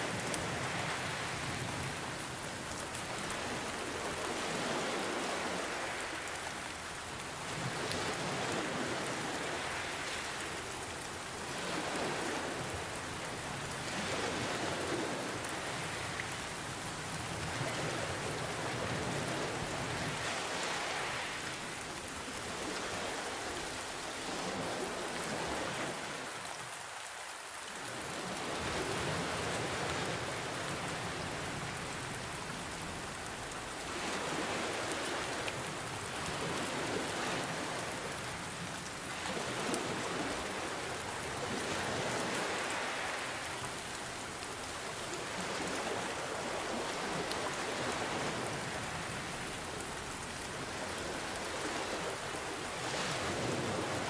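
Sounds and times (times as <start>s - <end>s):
ocean waves: 0.0s - 54.0s
rain hissing and pattering: 0.0s - 54.0s.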